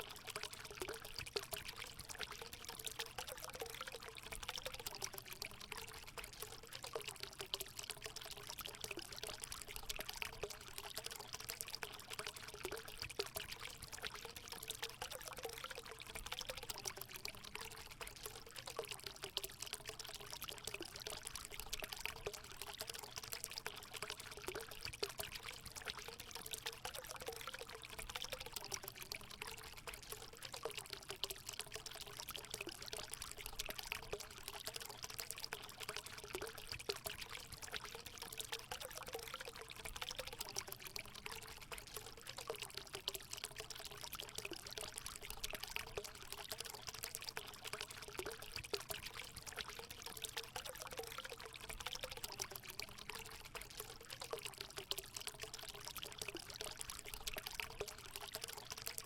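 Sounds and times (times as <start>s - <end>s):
water pouring into pool: 0.0s - 59.0s.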